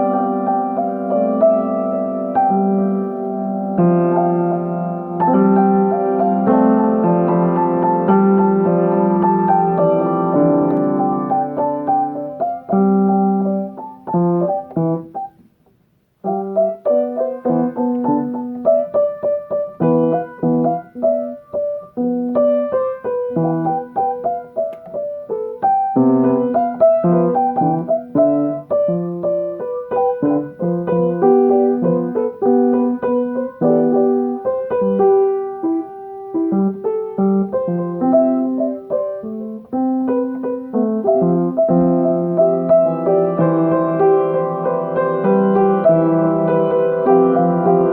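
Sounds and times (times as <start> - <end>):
solo piano: 0.0 - 47.9.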